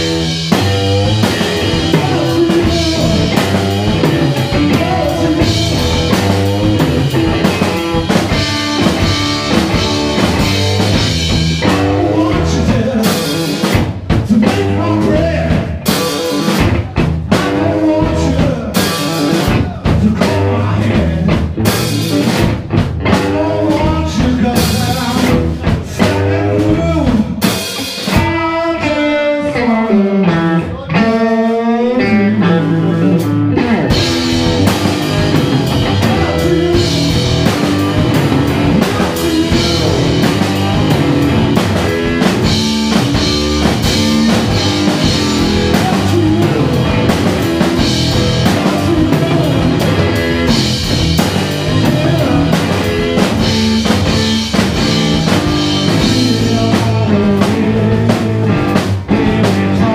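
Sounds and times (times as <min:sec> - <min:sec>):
drum kit with cymbals: 0:00.0 - 0:28.9, 0:33.1 - 0:59.9
bass guitar: 0:00.0 - 0:59.9
electric guitar: 0:00.0 - 0:59.9.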